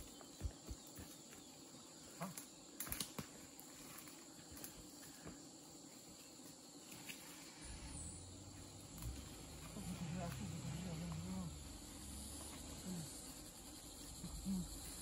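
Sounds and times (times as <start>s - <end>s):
insects in forest: 0.0s - 15.0s.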